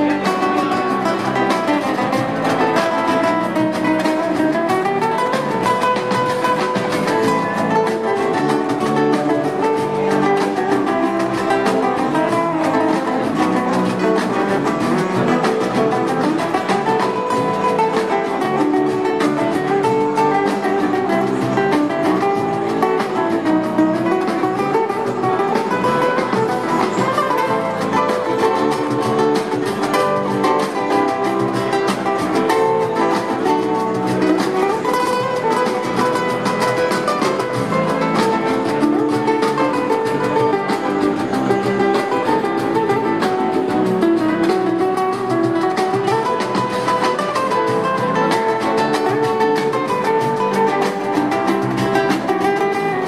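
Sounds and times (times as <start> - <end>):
acoustic guitar: 0.0 - 53.0
cajon drum: 0.0 - 53.0.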